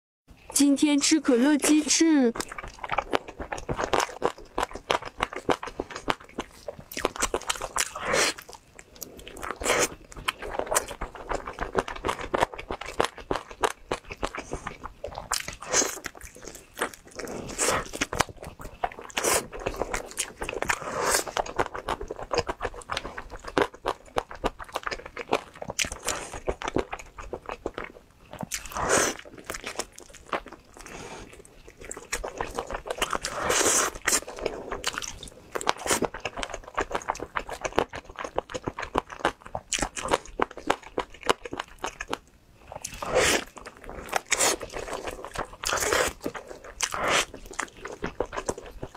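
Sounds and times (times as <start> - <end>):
biting and chewing food: 1.7 - 48.9.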